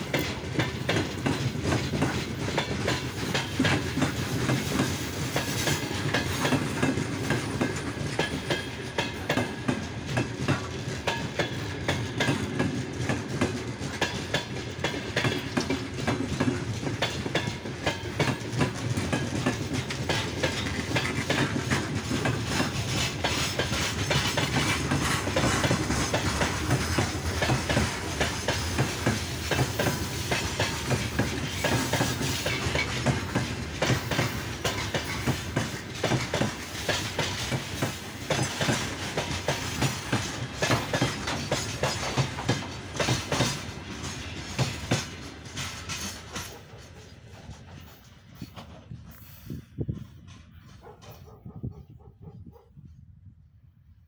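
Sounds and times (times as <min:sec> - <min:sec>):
train wheels clacking over rail joints: 0:00.0 - 0:51.8.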